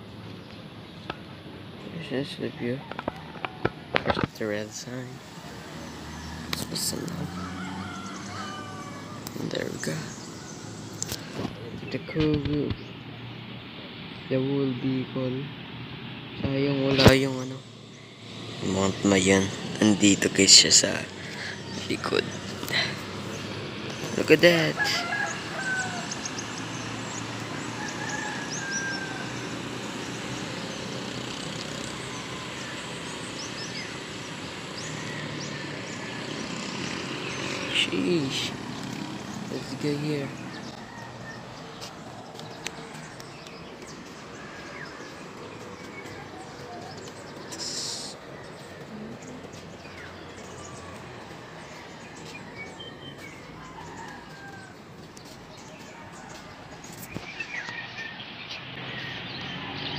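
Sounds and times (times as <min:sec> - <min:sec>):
small birds chirping: 0:00.0 - 0:03.6, 0:04.2 - 0:59.9
distant traffic hum: 0:00.0 - 0:59.9.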